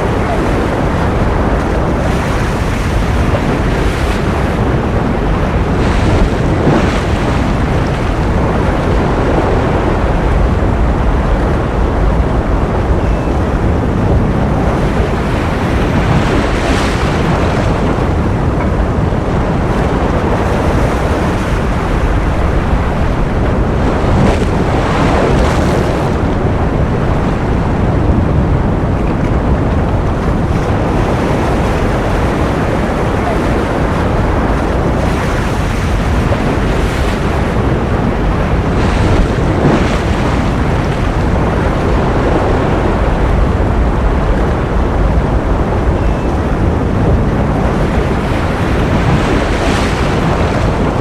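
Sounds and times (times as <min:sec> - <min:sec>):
ocean surf: 0:00.0 - 0:51.0.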